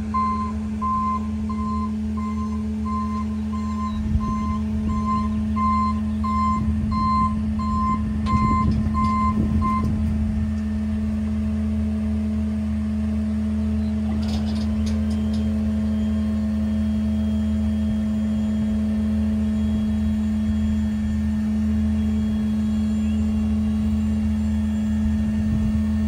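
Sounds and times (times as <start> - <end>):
truck backup alarm beeping: 0.0 - 26.0
truck engine drone: 0.0 - 26.0.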